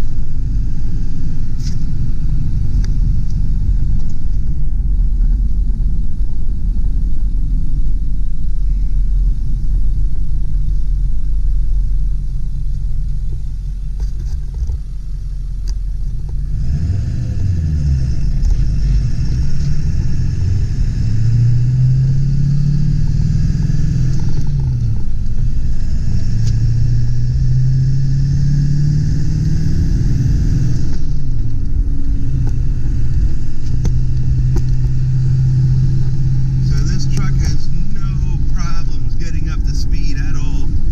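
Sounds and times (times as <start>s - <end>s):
diesel truck engine rumbling: 0.0s - 40.9s.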